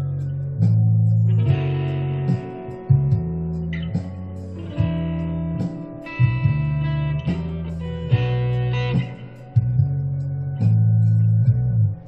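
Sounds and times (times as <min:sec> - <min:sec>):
electric guitar playing blues: 0:00.0 - 0:12.0.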